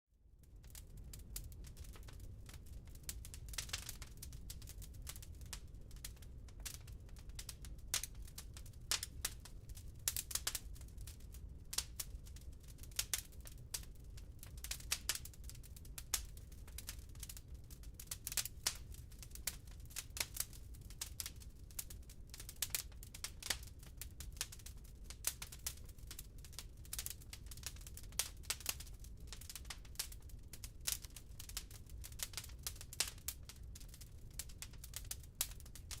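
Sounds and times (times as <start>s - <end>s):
low rumble of fire: 0.1s - 36.0s
firewood crackling and popping: 0.5s - 36.0s.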